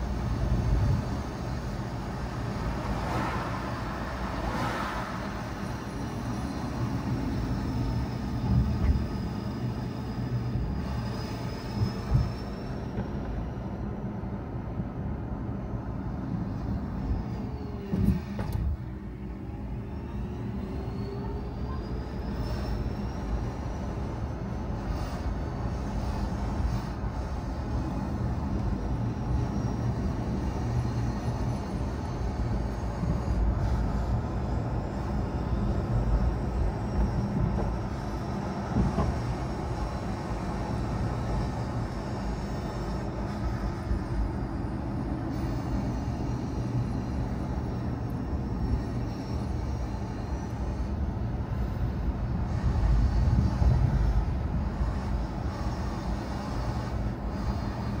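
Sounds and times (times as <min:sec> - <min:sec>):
car engine and tyres rumbling: 0:00.0 - 0:58.0
faint drivetrain whine: 0:00.0 - 0:58.0.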